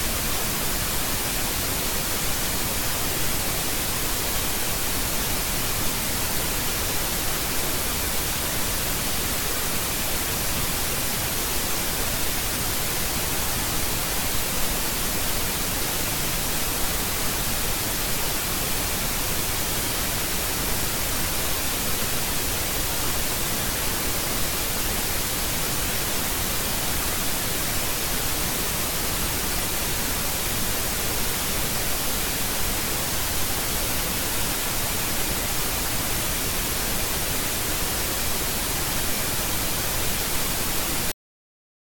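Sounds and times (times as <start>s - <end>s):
static hiss: 0.0s - 41.1s.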